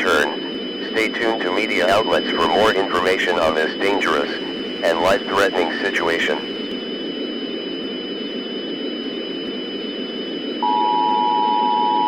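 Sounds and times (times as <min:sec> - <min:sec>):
static hiss with high whine: 0:00.0 - 0:10.6
emergency alert tone: 0:00.0 - 0:12.0.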